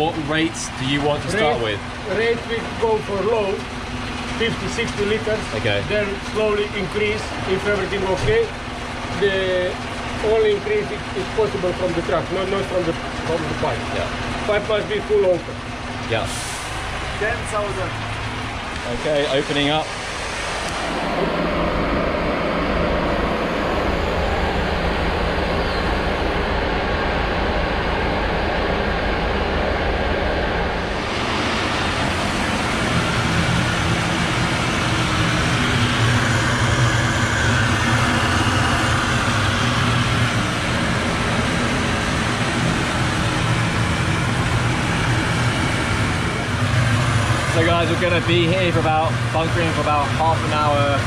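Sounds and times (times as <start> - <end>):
truck engine and pump running: 0.0 - 51.0.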